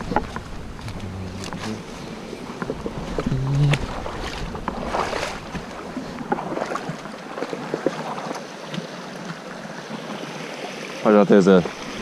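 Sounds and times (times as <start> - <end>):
small water splashes: 0.0 - 12.0
water running over rocks: 0.0 - 12.0.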